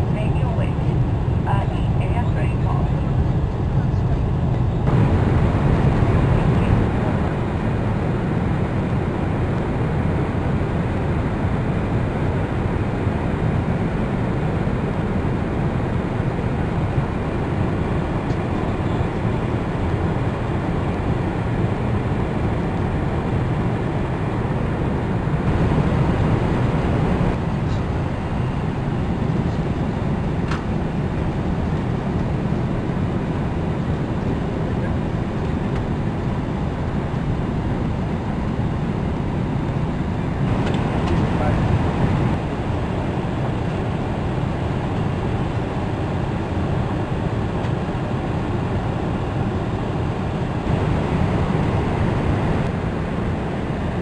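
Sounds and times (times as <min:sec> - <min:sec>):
airliner cabin engine rushing: 0:00.0 - 0:54.0.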